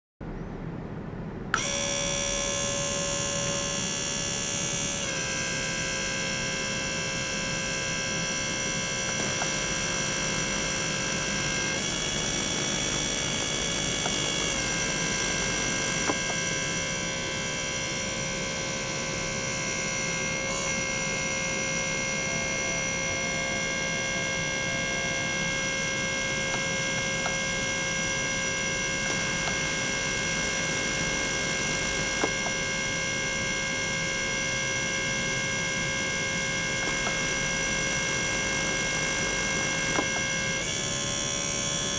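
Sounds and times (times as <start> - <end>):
ultrasonic cleaner hum and whine: 0.2 - 41.9.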